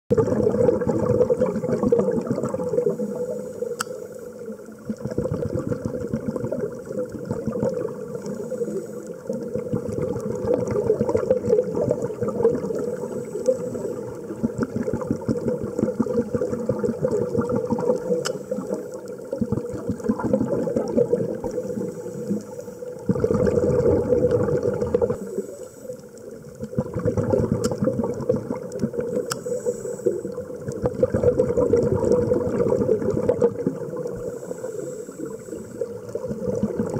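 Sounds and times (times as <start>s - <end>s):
underwater breath bubbles: 0.1s - 36.9s.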